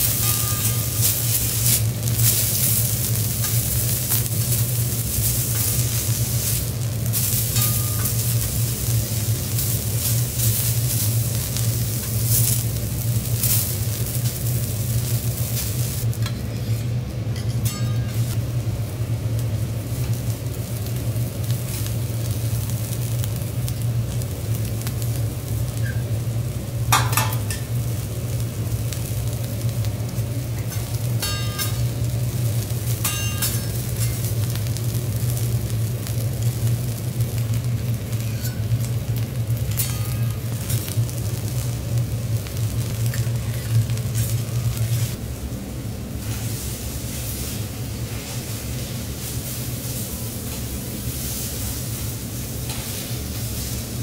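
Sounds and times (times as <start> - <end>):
vegetables sizzling on a griddle: 0.0 - 54.0.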